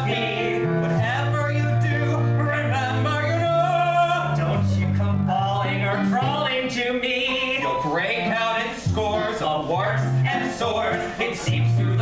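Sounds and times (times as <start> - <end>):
keyboard: 0.0 - 12.0
man singing: 0.0 - 12.0.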